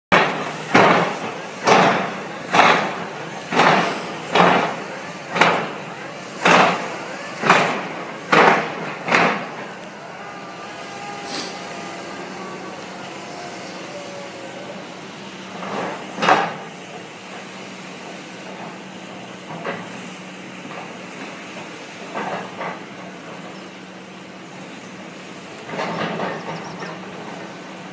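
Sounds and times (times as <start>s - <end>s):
steady machinery hum: 0.1s - 26.2s
piling rig heavy bangs: 0.1s - 27.9s.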